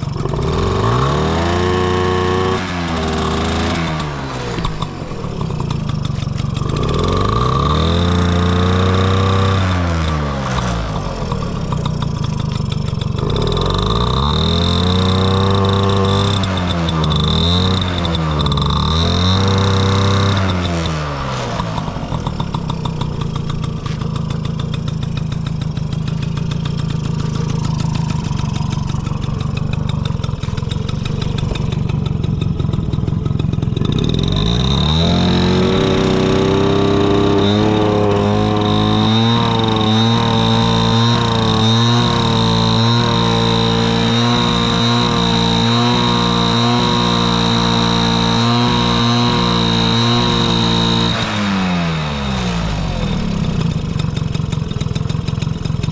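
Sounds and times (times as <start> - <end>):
two-stroke engine idling and revving: 0.0 - 55.9.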